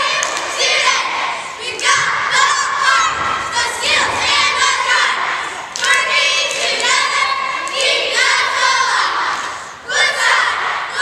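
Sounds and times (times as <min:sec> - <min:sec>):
girls shouting a cheer in unison: 0:00.0 - 0:11.0.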